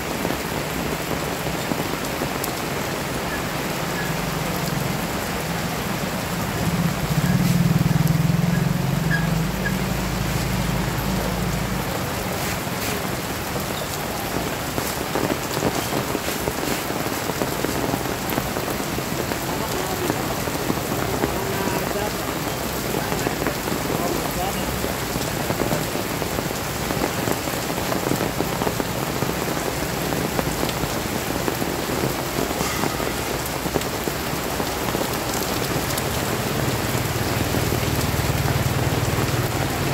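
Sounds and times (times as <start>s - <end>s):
heavy rain on pavement: 0.0s - 39.9s
motorbike passing: 3.5s - 39.9s.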